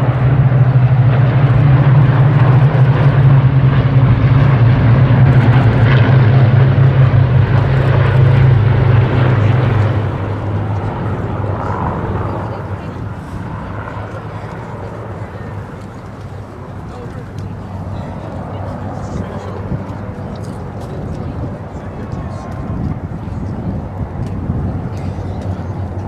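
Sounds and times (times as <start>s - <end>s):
piston aircraft engine droning: 0.0s - 26.0s.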